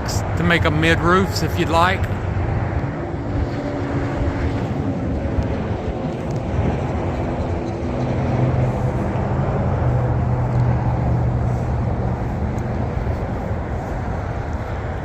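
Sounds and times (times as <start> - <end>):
outdoor background noise: 0.0 - 15.0
vehicle engine humming: 0.0 - 15.0.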